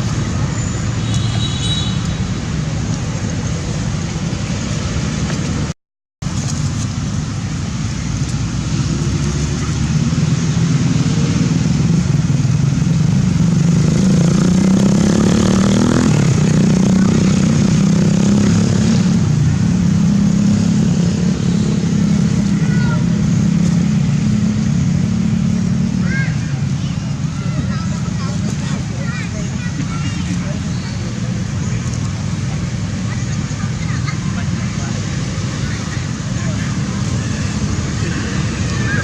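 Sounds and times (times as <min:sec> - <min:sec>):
motor vehicle traffic: 0:00.0 - 0:39.0.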